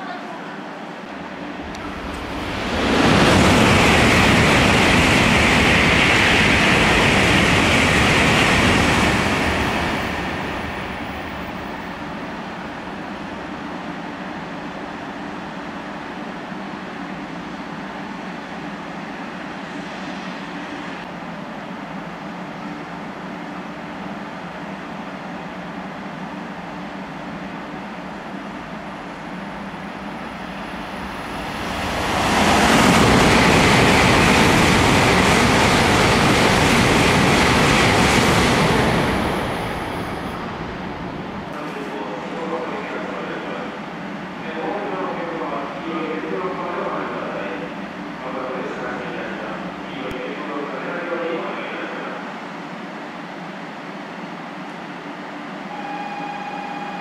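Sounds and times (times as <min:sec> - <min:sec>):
high-speed train rushing past: 0:00.0 - 0:57.0
train running hum: 0:00.0 - 0:57.0.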